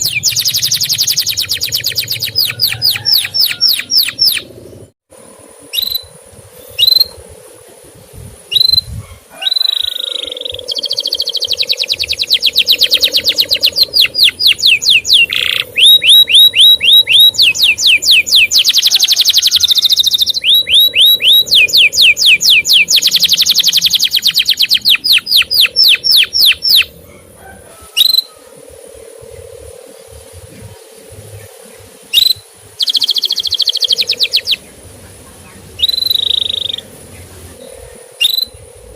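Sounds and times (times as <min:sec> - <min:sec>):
canary chirps: 0:00.0 - 0:04.9, 0:08.5 - 0:27.0, 0:30.1 - 0:38.9
canary singing trills: 0:00.0 - 0:04.9, 0:05.5 - 0:07.4, 0:08.4 - 0:38.9.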